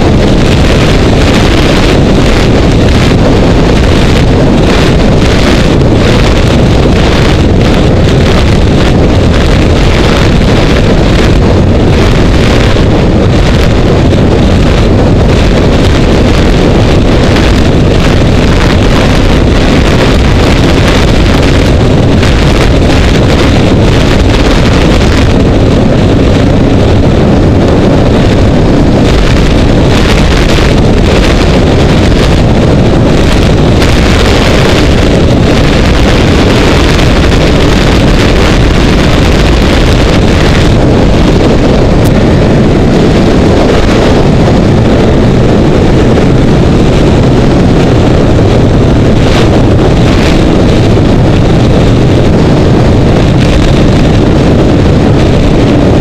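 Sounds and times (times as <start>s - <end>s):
snowmobile engine drone: 0.0s - 56.0s
wind buffeting microphone: 0.0s - 56.0s.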